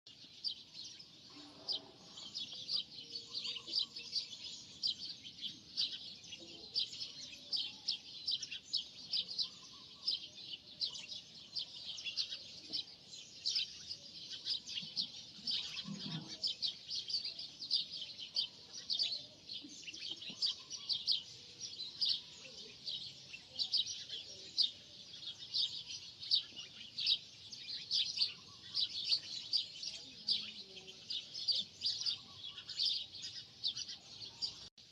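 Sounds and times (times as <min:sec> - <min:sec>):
birds chirping rapidly: 0:00.1 - 0:34.9.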